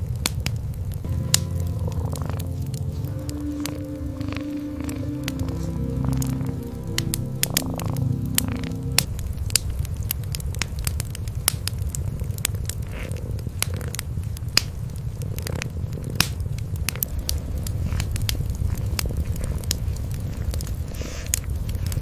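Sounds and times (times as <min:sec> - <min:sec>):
wood fire crackling: 0:00.0 - 0:22.0
cats purring: 0:01.2 - 0:09.2, 0:12.1 - 0:22.0.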